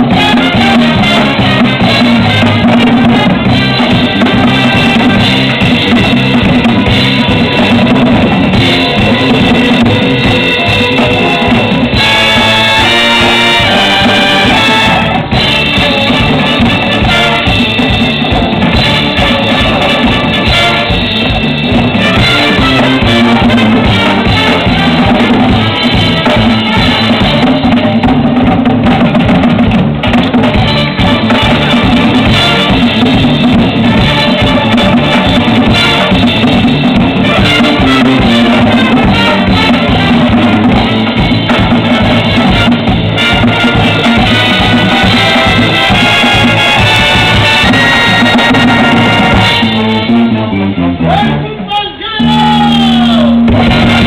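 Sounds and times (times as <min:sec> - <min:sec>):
bass and snare drums: 0:00.0 - 0:54.0
military brass band playing: 0:00.0 - 0:54.0.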